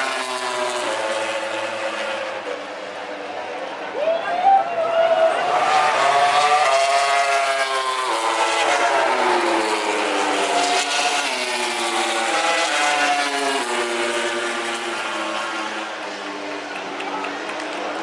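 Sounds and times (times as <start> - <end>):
racing motorcycle accelerating: 0.0 - 3.3, 5.4 - 18.0.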